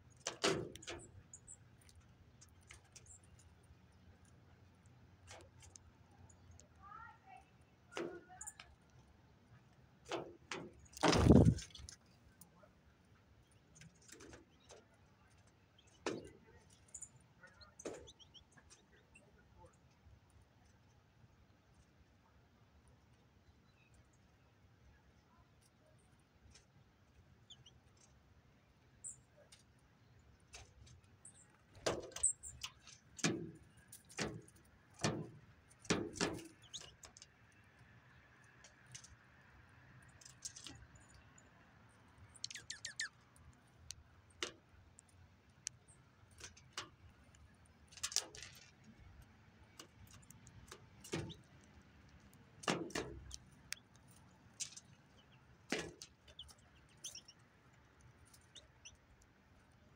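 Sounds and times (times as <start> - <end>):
birds pecking in seed: 0.0 - 22.0, 25.4 - 59.9.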